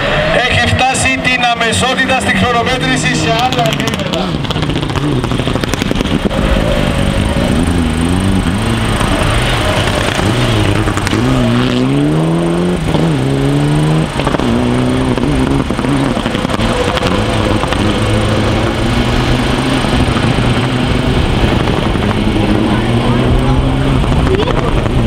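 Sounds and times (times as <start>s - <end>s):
rally car engine at full throttle: 0.0s - 25.0s.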